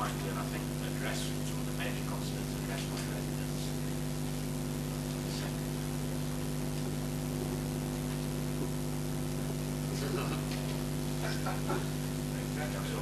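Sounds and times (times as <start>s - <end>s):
constant hiss: 0.0s - 13.0s
electrical hum: 0.0s - 13.0s.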